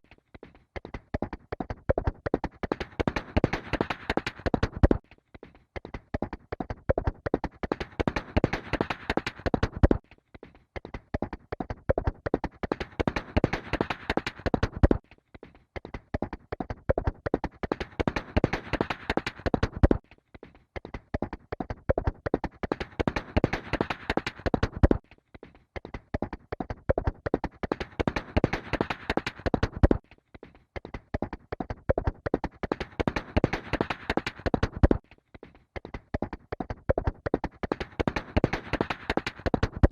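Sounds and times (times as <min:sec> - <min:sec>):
horse hoofbeats galloping: 0:00.0 - 0:10.1, 0:10.8 - 0:15.1, 0:15.8 - 0:20.1, 0:20.8 - 0:25.1, 0:25.8 - 0:39.9.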